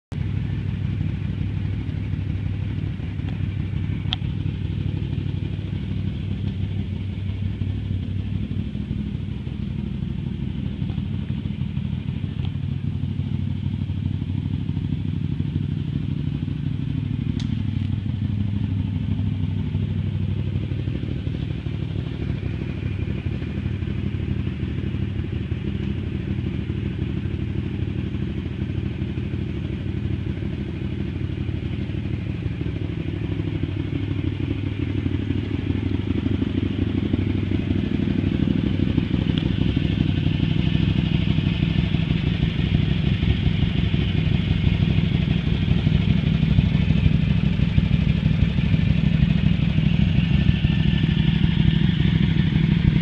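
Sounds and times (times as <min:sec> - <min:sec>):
engine idling: 0:00.1 - 0:53.0.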